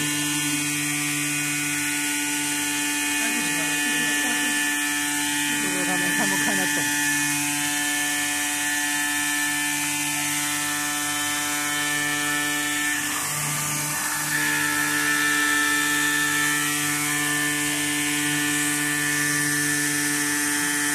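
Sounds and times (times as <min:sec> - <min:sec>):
cutting machine humming with hiss: 0:00.0 - 0:20.9.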